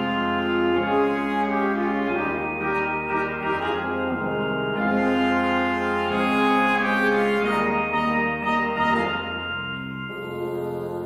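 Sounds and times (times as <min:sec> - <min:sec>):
slow music of held chords: 0:00.0 - 0:11.0.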